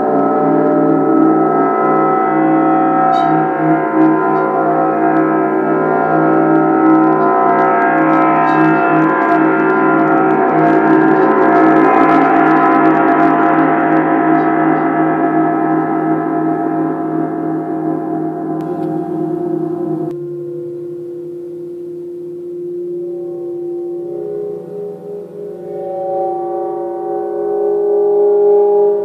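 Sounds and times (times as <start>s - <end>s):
gong ringing: 0.0s - 29.0s.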